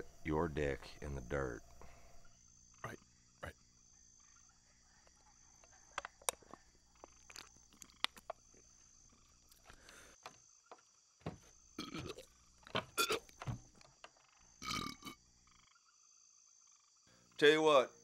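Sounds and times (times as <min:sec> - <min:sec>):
high-pitched insect chirring: 0:00.0 - 0:09.7, 0:11.7 - 0:17.1.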